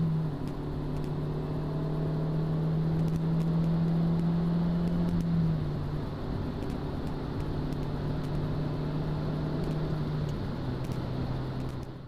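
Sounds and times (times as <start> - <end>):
car engine drone from inside cabin: 0.0 - 12.0
road noise: 0.0 - 12.0.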